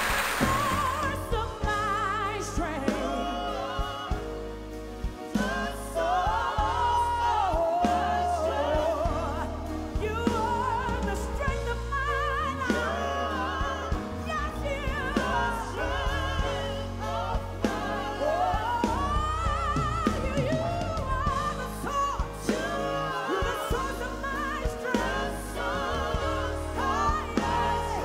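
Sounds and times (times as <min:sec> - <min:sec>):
bass guitar: 0:00.0 - 0:28.0
drums: 0:00.0 - 0:28.0
keyboard: 0:00.0 - 0:28.0
woman singing gospel lead: 0:00.0 - 0:28.0.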